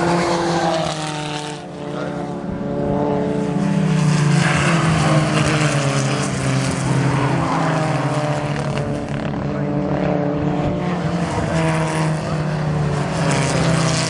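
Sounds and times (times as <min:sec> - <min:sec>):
racing car engines: 0:00.0 - 0:14.0
racing car passing close: 0:00.0 - 0:14.0.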